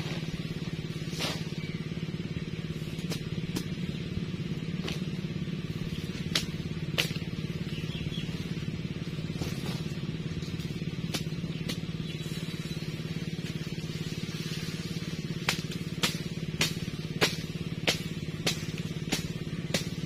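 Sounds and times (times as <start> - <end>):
machete chopping grass stalks: 0.0 - 12.4, 13.2 - 20.0
low motor hum: 0.0 - 20.0.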